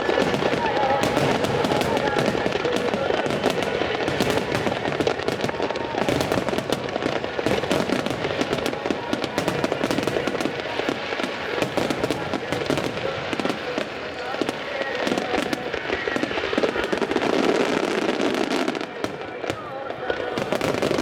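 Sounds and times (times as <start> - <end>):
fireworks bursts and crackling: 0.0 - 21.0.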